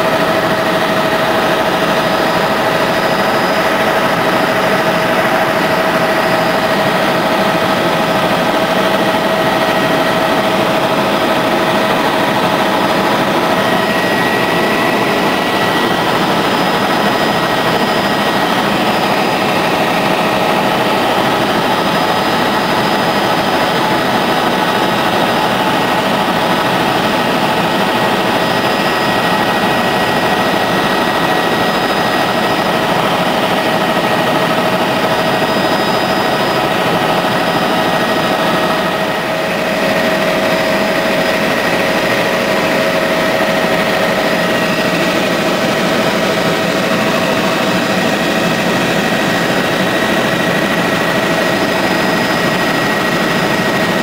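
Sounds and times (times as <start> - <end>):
constant whine: 0.0 - 54.0
helicopter engine and rotor noise: 0.0 - 54.0.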